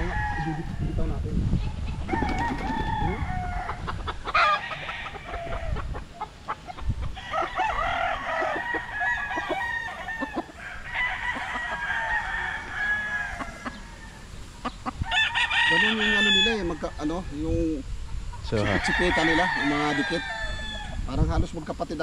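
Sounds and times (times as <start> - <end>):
roosters crowing: 0.0 - 21.6
chickens clucking: 0.0 - 22.0.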